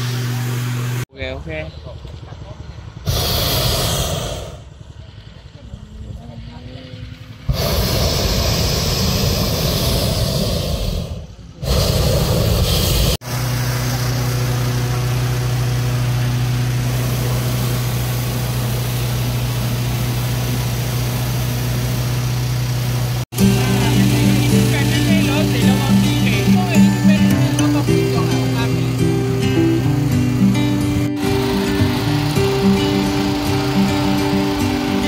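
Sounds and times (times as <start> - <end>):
low engine-like hum: 0.0 - 11.7, 12.8 - 35.0
balloon burner roaring: 3.0 - 5.1, 7.3 - 35.0.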